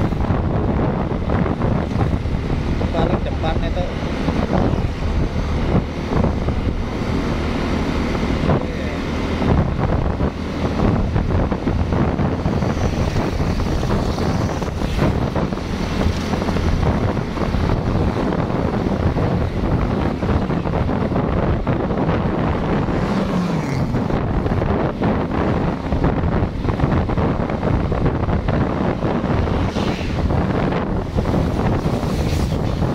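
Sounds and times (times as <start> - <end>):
motorcycle engine: 0.0 - 32.9
road noise: 0.0 - 32.9
wind buffeting microphone: 0.0 - 32.9.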